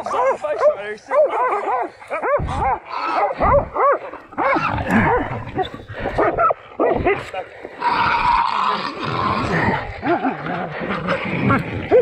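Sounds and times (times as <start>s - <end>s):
dogs barking: 0.0s - 8.3s, 9.9s - 12.0s.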